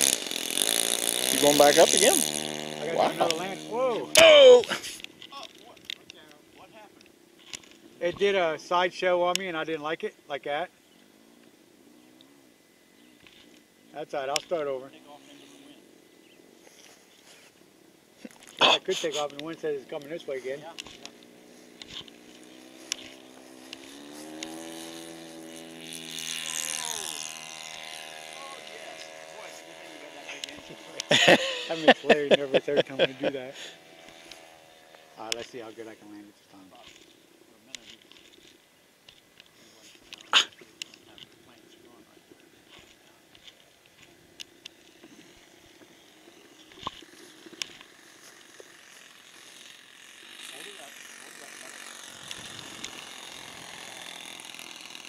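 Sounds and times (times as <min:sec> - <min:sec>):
model airplane motor whine: 0:00.0 - 0:08.8, 0:10.8 - 0:17.7, 0:18.4 - 0:55.0.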